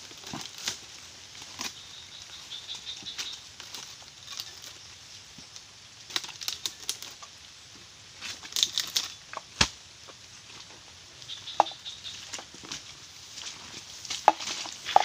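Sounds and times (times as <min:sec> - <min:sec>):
fronds crackling and snapping: 0:00.0 - 0:15.0.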